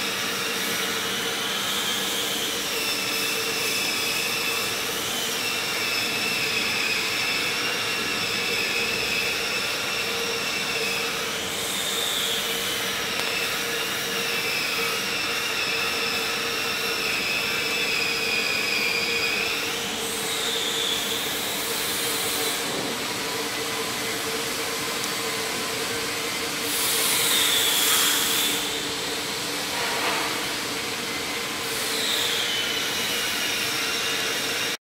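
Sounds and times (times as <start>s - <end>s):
high-pitched machine whines: 0.0s - 34.8s
machinery hum: 0.0s - 34.8s.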